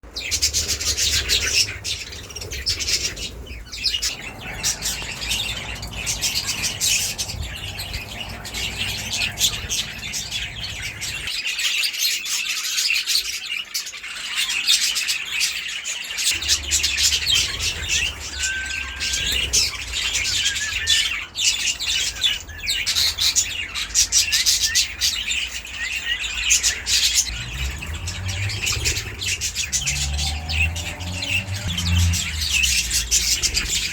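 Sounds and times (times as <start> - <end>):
flock of budgerigars chirping: 0.0 - 33.9.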